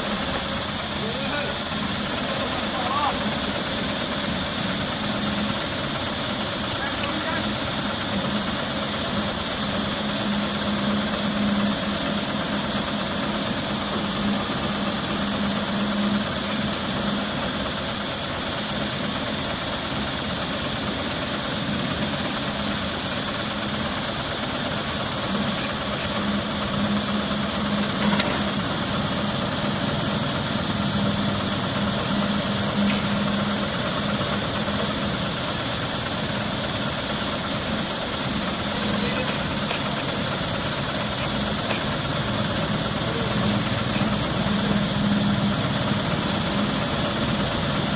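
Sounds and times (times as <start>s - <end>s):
engine hum: 0.0s - 47.9s.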